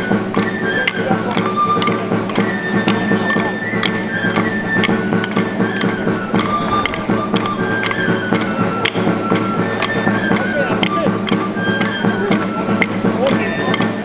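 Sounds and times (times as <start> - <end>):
high melody in long held notes: 0.0 - 14.0
lower folk instruments: 0.0 - 14.0
sharp percussive taps: 0.0 - 14.0.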